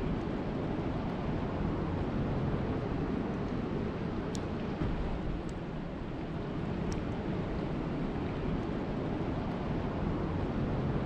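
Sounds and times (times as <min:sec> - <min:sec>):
rain falling on a lake: 0:00.2 - 0:10.7.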